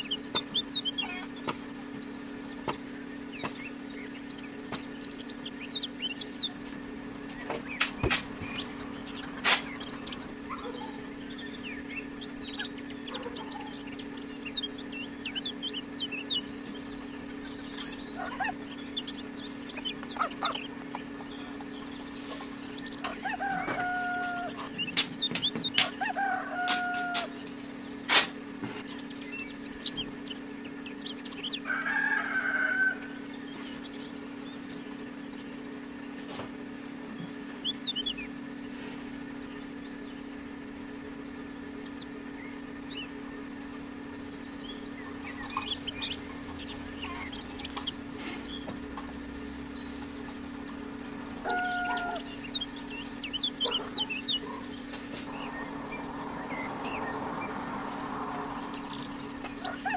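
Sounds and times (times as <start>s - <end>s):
birds chirping: 0.0s - 59.9s
steady low hum: 0.0s - 59.9s.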